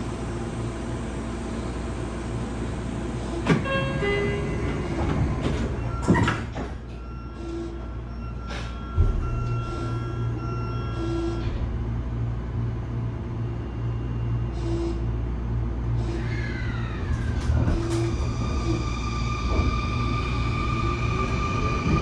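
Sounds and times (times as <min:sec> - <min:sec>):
train inverter whine: 0:00.0 - 0:22.0
train low rumble: 0:00.0 - 0:22.0.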